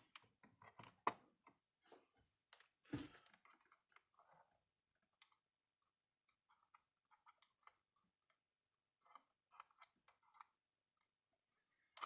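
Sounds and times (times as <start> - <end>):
faint clicks and taps of small parts: 0.1 - 1.7, 2.5 - 11.2.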